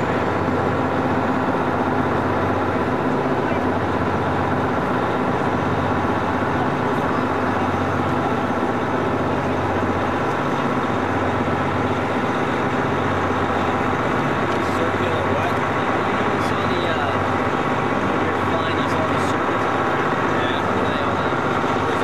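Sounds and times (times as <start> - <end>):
bus engine hum and road noise: 0.0 - 22.0.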